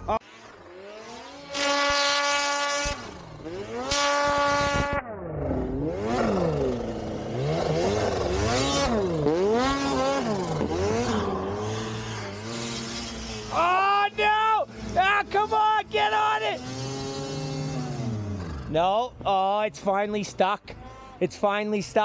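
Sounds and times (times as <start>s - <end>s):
snowmobile engine revving: 0.0s - 20.4s.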